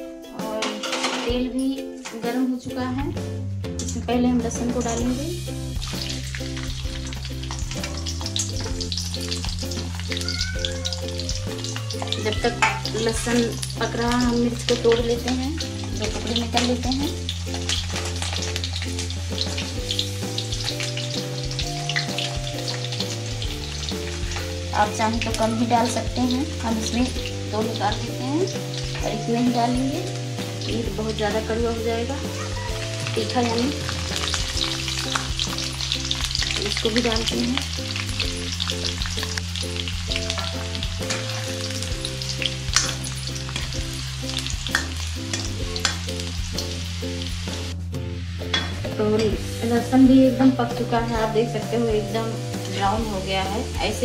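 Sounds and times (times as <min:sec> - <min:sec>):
garlic sizzling in hot oil: 0:04.5 - 0:54.0.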